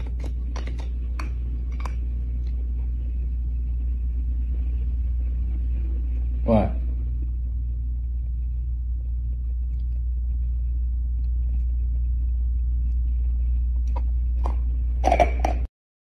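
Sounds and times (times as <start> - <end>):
low rumble: 0.0 - 15.7.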